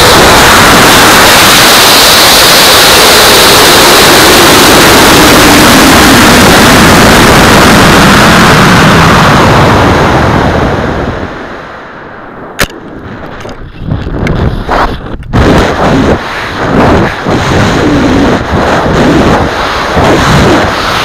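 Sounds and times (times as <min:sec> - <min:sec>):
rocket motor exhaust and air rush: 0:00.0 - 0:11.9, 0:14.6 - 0:21.0.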